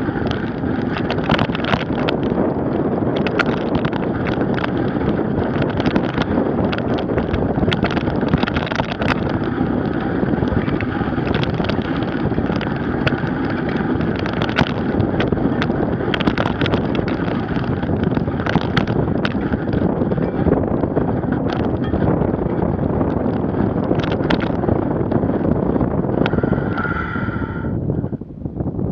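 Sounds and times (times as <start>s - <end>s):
sharp clicks and rattles: 0.0s - 27.4s
bicycle tyre rolling over snow: 0.0s - 28.9s
wind rumble on microphone: 0.0s - 28.9s.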